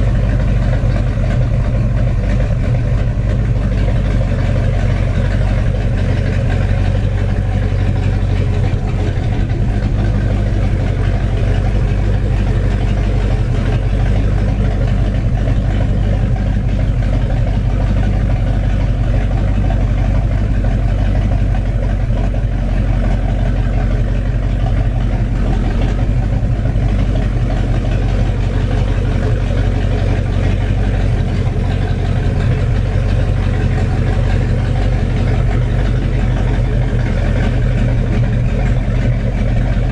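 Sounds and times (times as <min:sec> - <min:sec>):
boat engine running steadily: 0:00.0 - 0:39.9.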